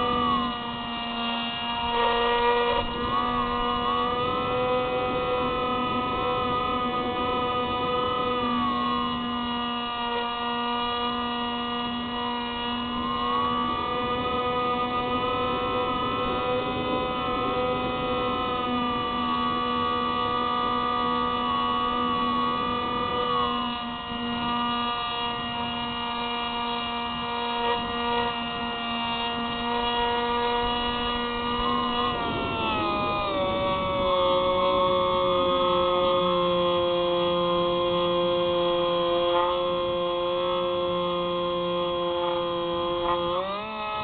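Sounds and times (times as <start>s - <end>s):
electric motor and propeller whining: 0.0s - 44.0s.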